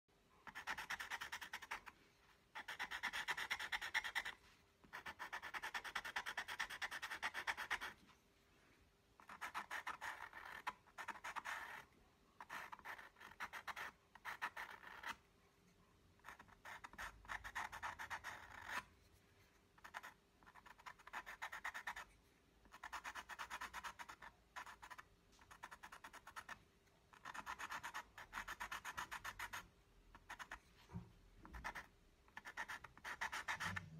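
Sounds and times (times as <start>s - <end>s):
pencil scratching on paper: 0.4s - 8.1s, 9.2s - 15.2s, 16.2s - 33.9s.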